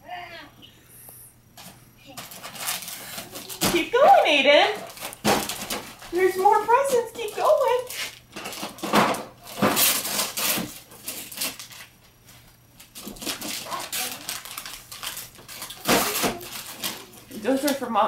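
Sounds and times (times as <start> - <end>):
wrapping paper crinkling and tearing: 2.1 - 3.8, 4.8 - 18.0.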